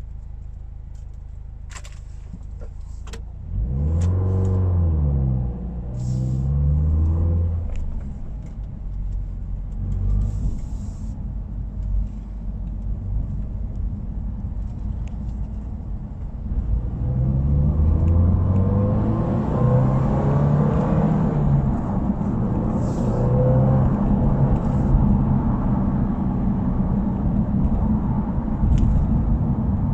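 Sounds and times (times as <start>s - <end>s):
car exhaust accelerating: 2.2s - 29.9s.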